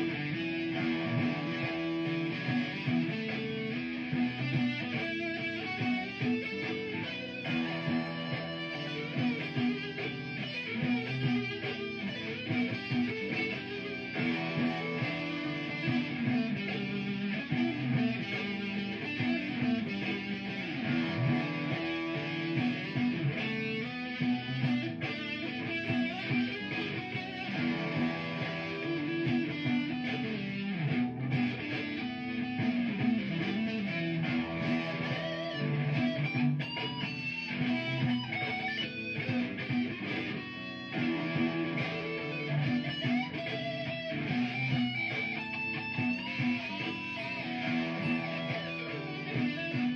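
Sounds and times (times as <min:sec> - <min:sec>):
electric guitar lead line: 0:00.0 - 0:49.9
looped guitar backing: 0:00.0 - 0:49.9.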